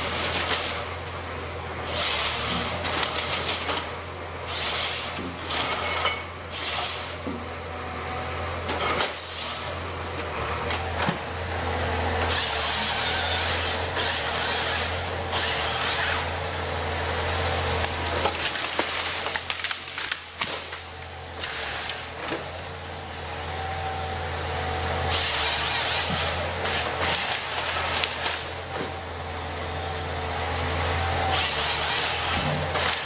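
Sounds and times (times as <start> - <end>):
heavy machine engine running: 0.0 - 33.0.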